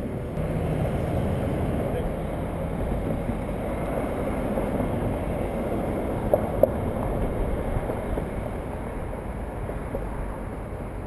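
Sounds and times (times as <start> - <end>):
passing car traffic: 0.0 - 11.0
wind buffeting microphone: 0.0 - 11.0.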